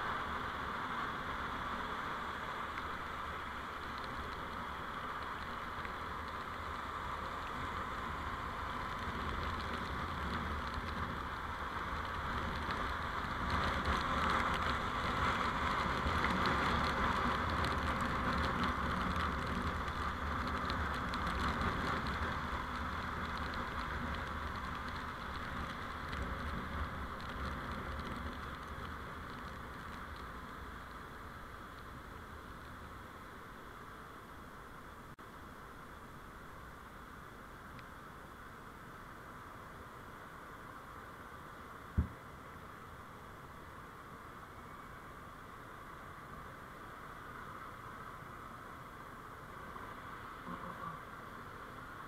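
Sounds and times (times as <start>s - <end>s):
vehicle road and engine noise: 0.0s - 52.0s.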